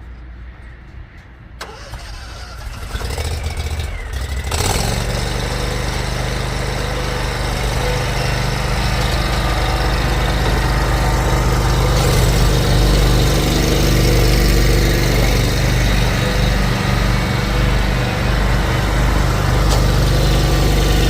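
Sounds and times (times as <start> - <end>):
lawn mower engine running: 1.6 - 21.0.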